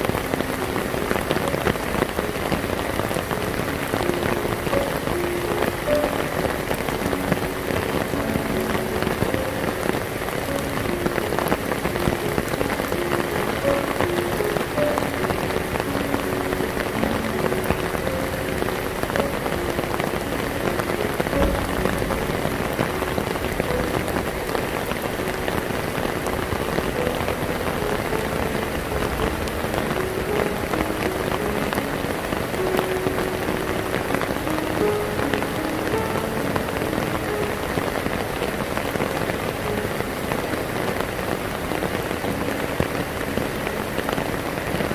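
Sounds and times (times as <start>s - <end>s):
heavy rain on hard surfaces: 0.0s - 44.9s.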